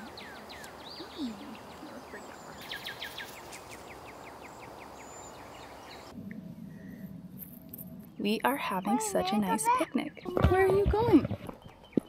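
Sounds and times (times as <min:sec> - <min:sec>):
steady outdoor hiss: 0:00.0 - 0:10.3
songbirds singing: 0:00.0 - 0:12.0.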